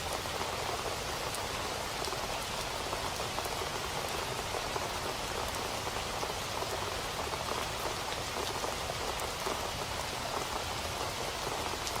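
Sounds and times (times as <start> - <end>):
rain pattering on a surface: 0.0 - 12.0.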